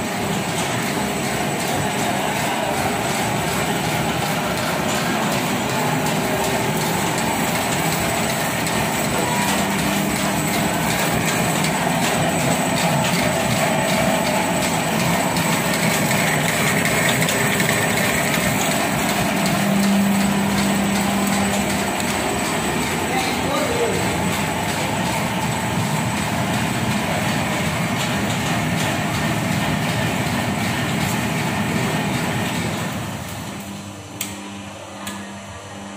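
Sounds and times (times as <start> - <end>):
lamination machine running: 0.0 - 35.9.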